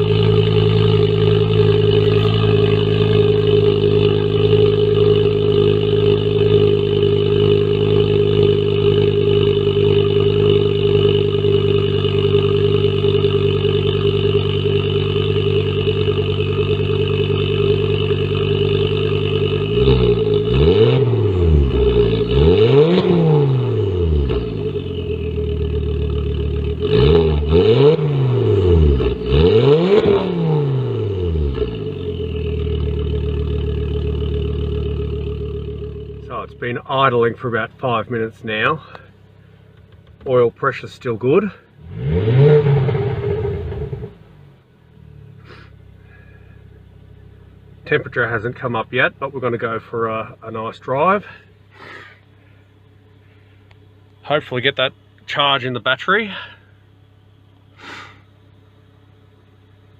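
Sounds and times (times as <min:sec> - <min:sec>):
car engine revving: 0:00.0 - 0:56.5
car engine idling: 0:00.0 - 0:59.9.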